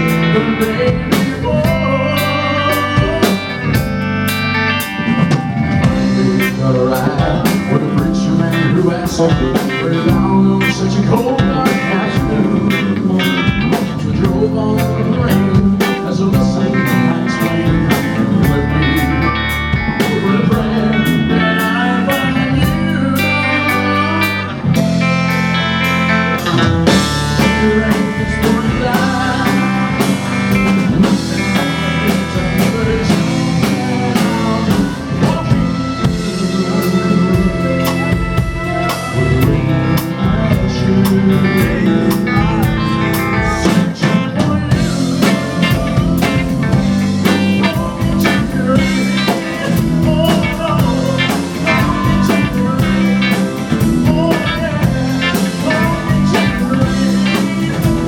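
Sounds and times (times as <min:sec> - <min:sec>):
live band playing rock ballad: 0:00.0 - 0:58.0.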